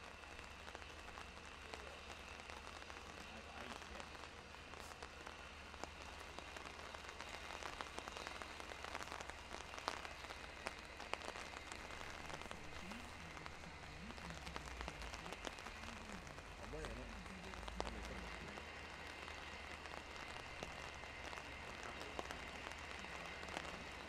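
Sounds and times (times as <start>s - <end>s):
sharp drips and patters: 0.0s - 24.0s
steady rain falling: 0.0s - 24.0s.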